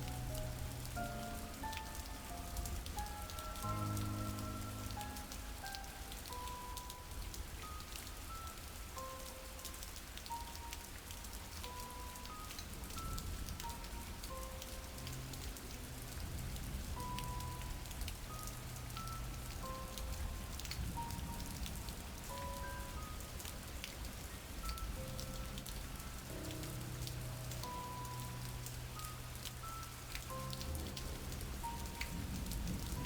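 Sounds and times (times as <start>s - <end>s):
soft held music notes: 0.0s - 33.0s
steady rain patter: 0.0s - 33.0s.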